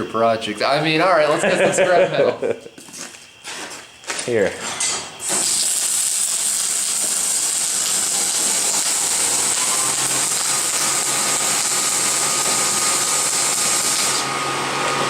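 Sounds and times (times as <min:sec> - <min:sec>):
welding arc sizzling crackle: 0:02.5 - 0:15.0.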